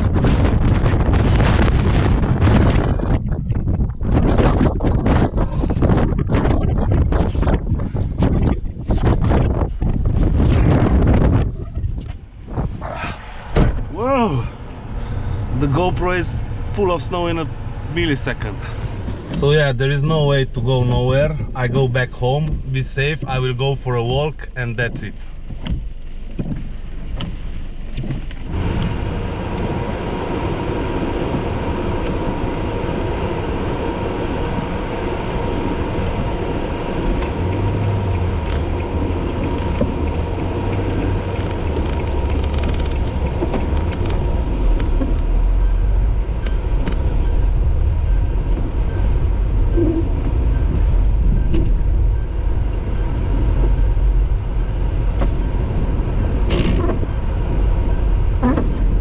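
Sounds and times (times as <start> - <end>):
car engine and road rumble: 0.0 - 59.0
wind noise: 0.0 - 59.0.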